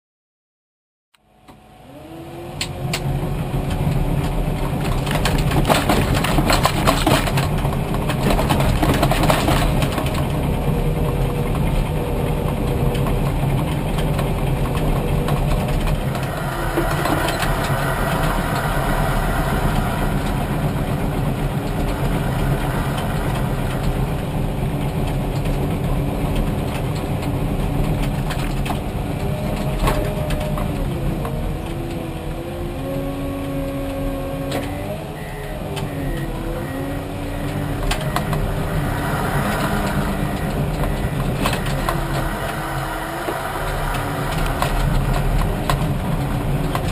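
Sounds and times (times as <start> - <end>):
whining tone: 1.2 - 46.9
bulldozer diesel engine running: 1.4 - 46.9.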